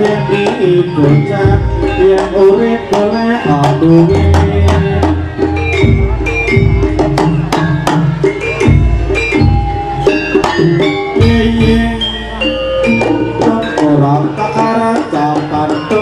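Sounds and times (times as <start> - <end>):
drum strokes: 0.0 - 16.0
metal percussion melody: 0.0 - 16.0.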